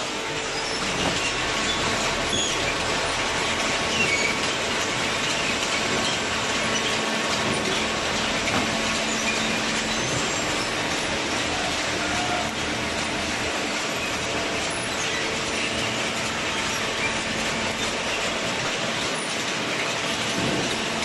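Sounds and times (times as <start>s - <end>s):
baler machinery running: 0.0s - 21.0s.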